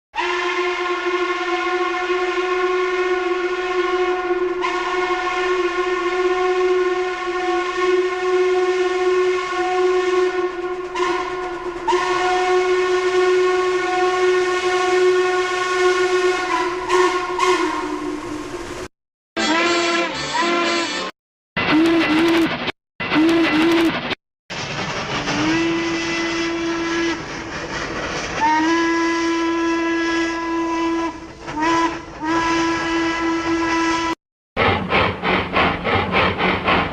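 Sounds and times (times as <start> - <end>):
train horn blast: 0.1 - 24.0, 25.2 - 27.6, 28.3 - 34.2.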